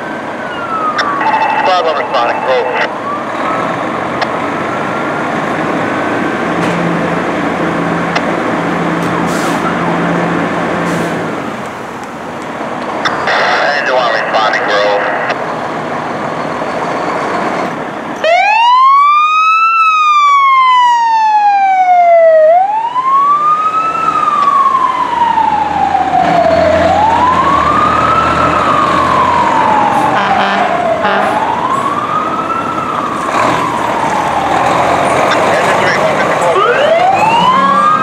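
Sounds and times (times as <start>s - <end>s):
fire engine siren wailing: 0.0s - 38.0s.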